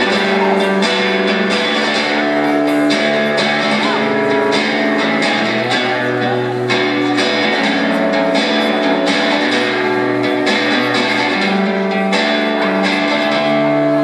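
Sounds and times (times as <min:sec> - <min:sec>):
amplified acoustic guitar strumming: 0:00.0 - 0:14.0.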